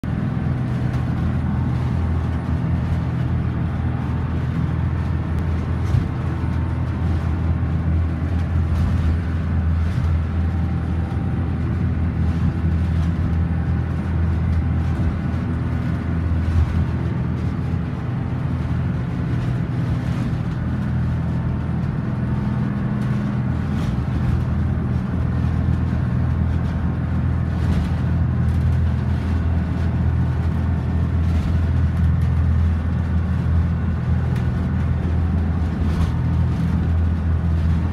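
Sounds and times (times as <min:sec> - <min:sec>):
boat diesel engine droning: 0:00.0 - 0:37.9
water slapping along hull: 0:00.0 - 0:37.9.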